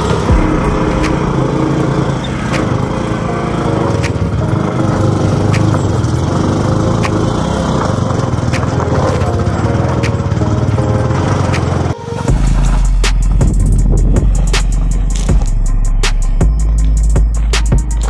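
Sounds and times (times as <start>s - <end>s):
motorcycle engine under load: 0.0s - 18.0s.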